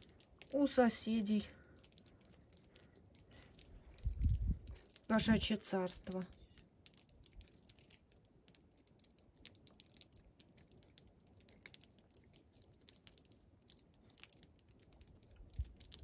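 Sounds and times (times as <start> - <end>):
cats chewing dry kibble: 0.0 - 5.1, 5.9 - 16.0.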